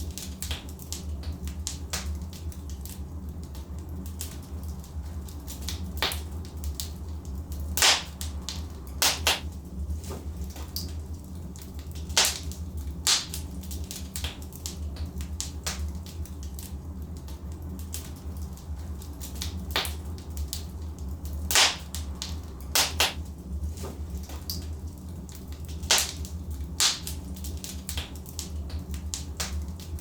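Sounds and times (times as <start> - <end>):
fire low rumble: 0.0 - 30.0
logs crackling and popping: 0.0 - 30.0.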